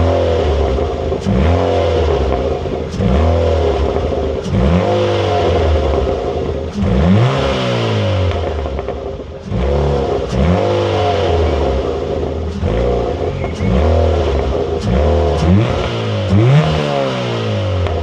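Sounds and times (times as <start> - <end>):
car engine revving through exhaust: 0.0 - 18.0.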